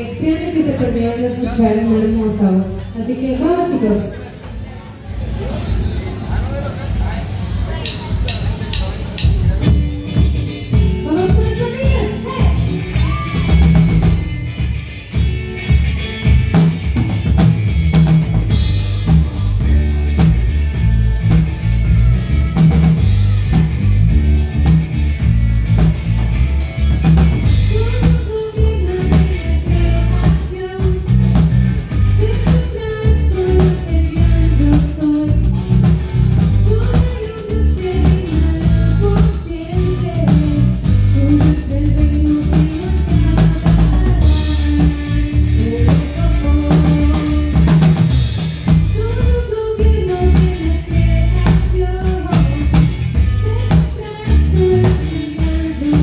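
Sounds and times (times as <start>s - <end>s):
electric guitar: 6.8s - 56.0s
drum kit: 7.7s - 56.0s.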